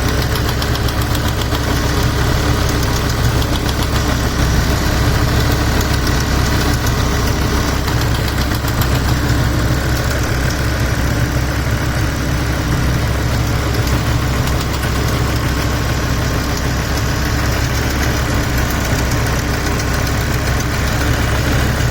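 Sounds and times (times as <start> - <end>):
engine idling: 0.0 - 21.9
fast even engine ticking: 0.0 - 21.9.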